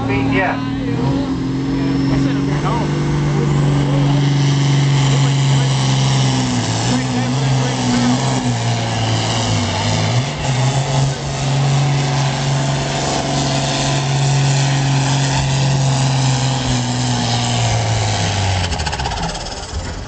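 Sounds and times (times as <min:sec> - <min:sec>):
tractor engine at full throttle: 0:00.0 - 0:20.0.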